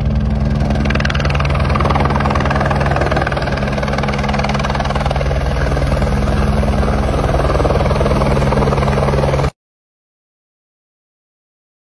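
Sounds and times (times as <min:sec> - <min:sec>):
helicopter rotor chopping: 0:00.0 - 0:09.6.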